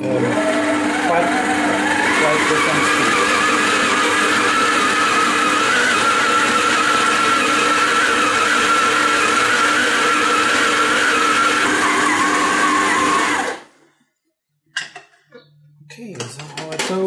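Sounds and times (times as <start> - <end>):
stand mixer motor whine: 0.0 - 13.8.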